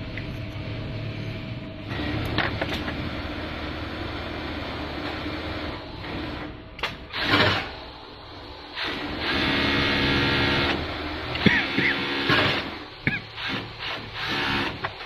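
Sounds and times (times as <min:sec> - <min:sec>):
industrial sewing machine stitching: 0:01.9 - 0:07.9, 0:08.7 - 0:15.0.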